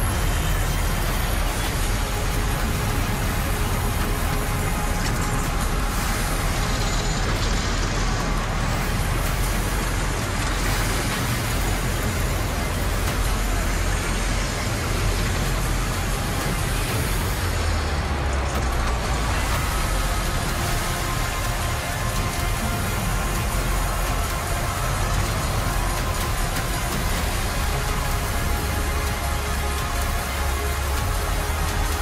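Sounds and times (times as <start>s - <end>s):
large arena crowd: 0.0s - 32.0s.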